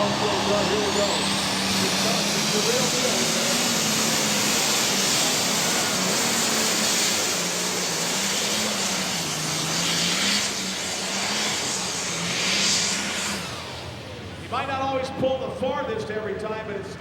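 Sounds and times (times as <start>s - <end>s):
tractor engine at full throttle: 0.0s - 17.0s.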